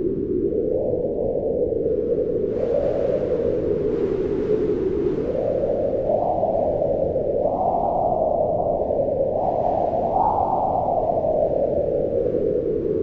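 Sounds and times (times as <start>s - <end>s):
strong wind howling: 0.0s - 13.0s.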